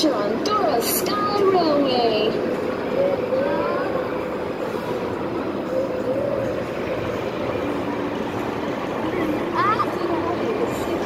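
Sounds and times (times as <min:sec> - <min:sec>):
train ride car rumbling on track: 0:00.0 - 0:11.0.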